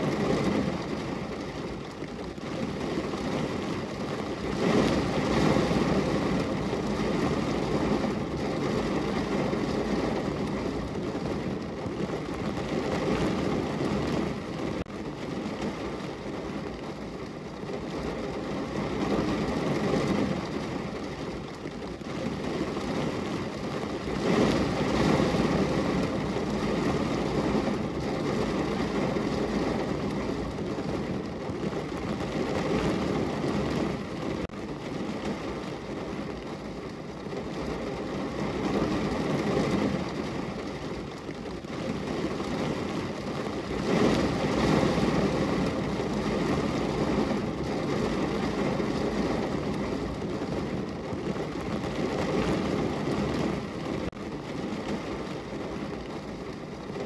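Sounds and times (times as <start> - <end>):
rain falling on a window: 0.0 - 57.0.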